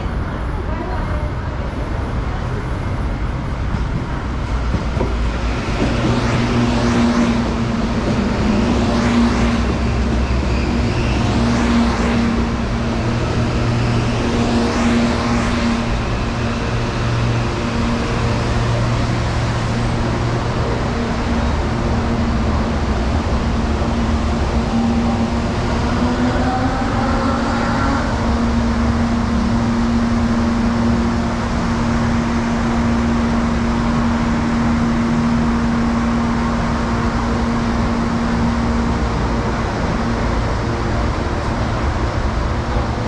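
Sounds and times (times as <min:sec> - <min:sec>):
electric train moving: 0:00.0 - 0:43.0
road traffic noise: 0:00.0 - 0:43.0
low hum: 0:04.6 - 0:43.0
rising and falling whines: 0:05.4 - 0:42.9.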